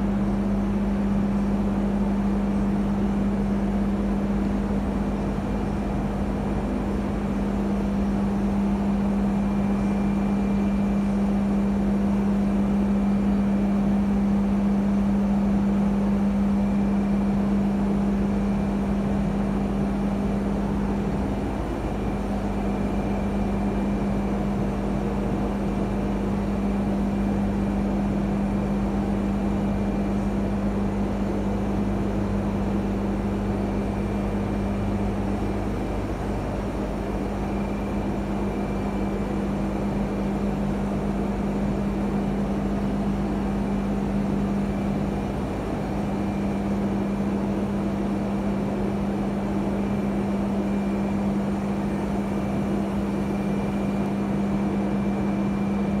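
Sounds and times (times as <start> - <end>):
low machinery hum: 0.0 - 56.0
faint high whine: 4.9 - 56.0.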